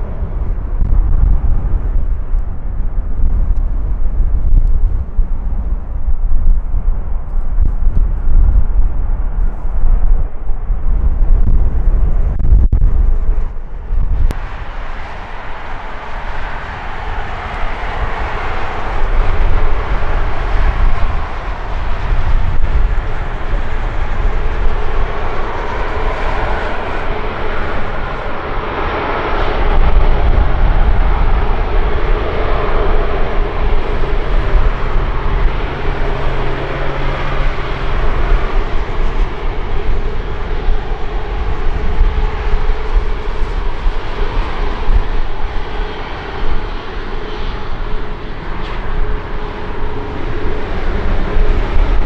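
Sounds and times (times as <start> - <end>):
jet engines rumbling and hissing: 0.0 - 52.0.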